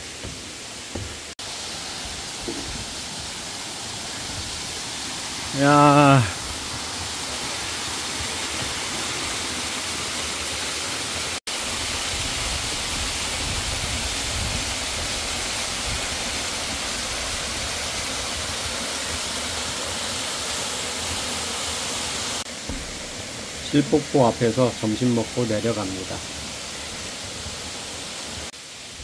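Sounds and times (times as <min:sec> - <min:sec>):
waterfall rushing and splashing: 0:00.0 - 0:29.0.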